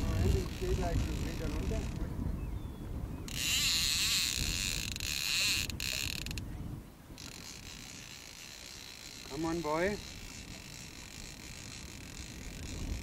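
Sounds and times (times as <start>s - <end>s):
fishing reel whirring and clicking: 0.0s - 2.1s, 3.2s - 6.5s, 7.1s - 13.0s.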